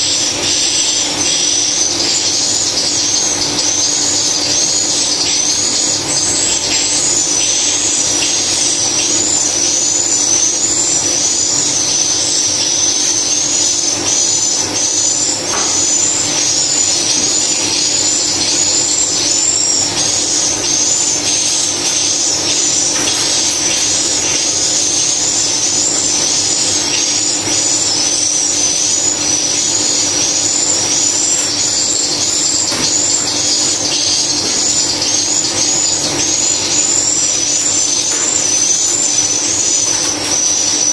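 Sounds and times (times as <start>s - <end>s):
high chirps from tweeters: 0.0s - 40.9s.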